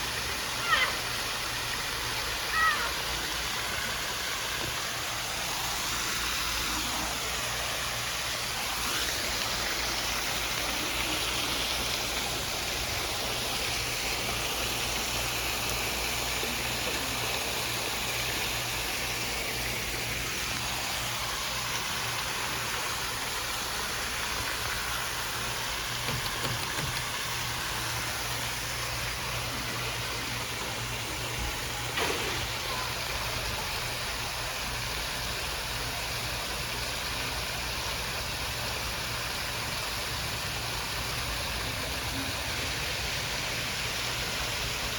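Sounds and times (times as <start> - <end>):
ceiling fan air rush and hum: 0.0 - 44.9.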